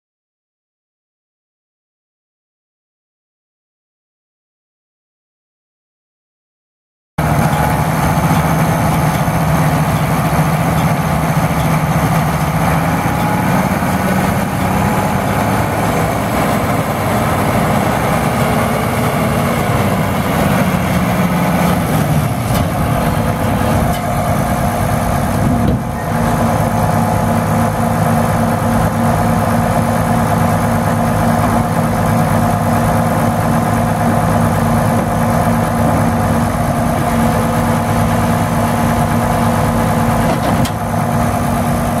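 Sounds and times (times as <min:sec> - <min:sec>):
tractor diesel engine running: 0:07.2 - 0:42.0.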